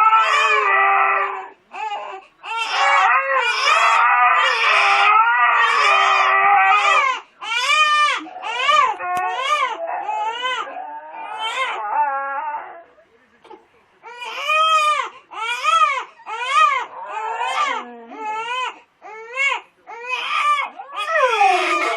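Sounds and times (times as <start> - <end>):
baby crying: 0.0 - 12.8, 14.0 - 21.9.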